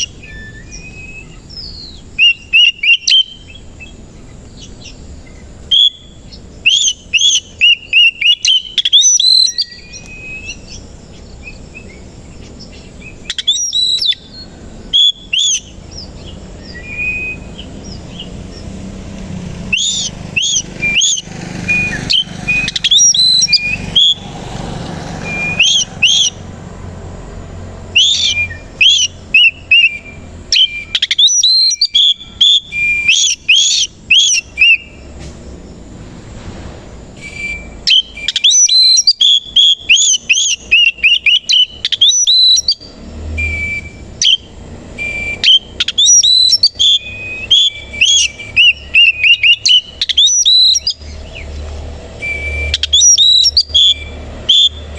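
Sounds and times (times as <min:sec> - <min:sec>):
bird singing whistled notes: 0:00.0 - 0:35.9, 0:37.1 - 0:54.9.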